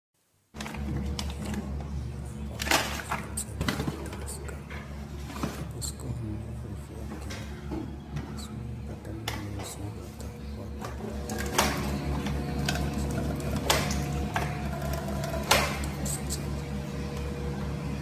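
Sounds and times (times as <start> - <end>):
low mechanical hum: 0.2 - 18.0.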